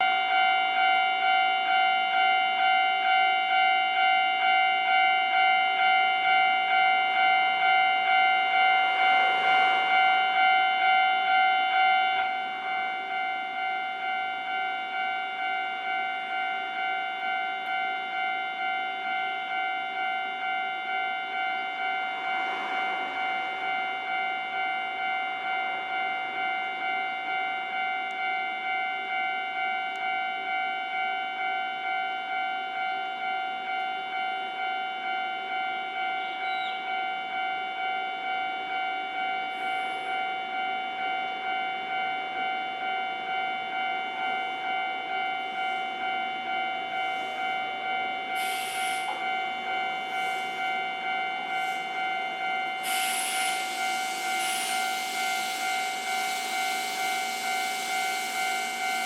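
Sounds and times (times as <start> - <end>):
level-crossing warning bell: 0.0 - 59.0.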